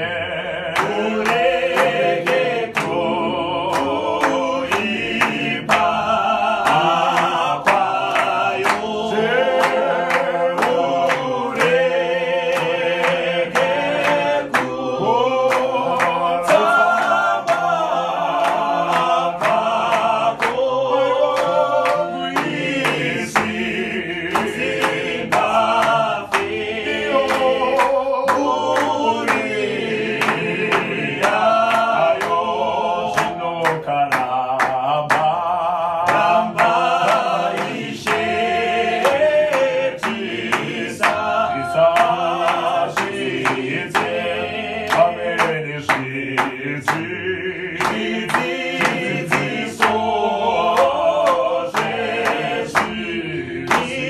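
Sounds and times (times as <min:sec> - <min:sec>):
choir singing a hymn: 0:00.0 - 0:54.0
hand claps: 0:00.0 - 0:54.0.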